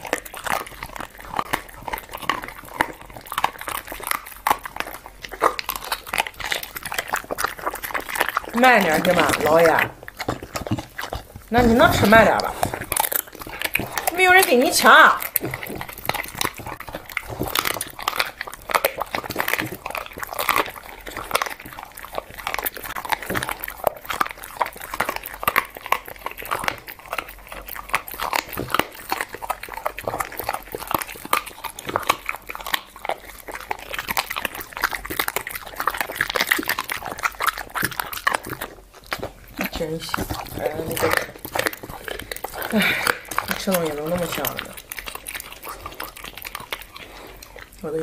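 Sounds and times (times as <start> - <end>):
dog chewing meat: 0.0 - 48.0.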